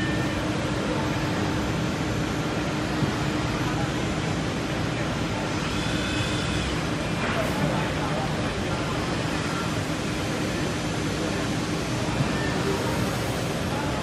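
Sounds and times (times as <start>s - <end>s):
steady machine tone: 0.0s - 4.5s, 5.6s - 8.6s, 10.0s - 14.0s
faint voices: 0.0s - 14.0s.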